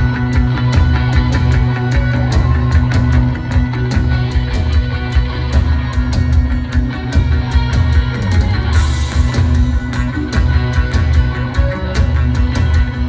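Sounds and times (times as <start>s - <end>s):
distorted electric guitar: 0.0s - 13.0s
fast drum beat: 0.0s - 13.0s
live rock band: 0.0s - 13.0s.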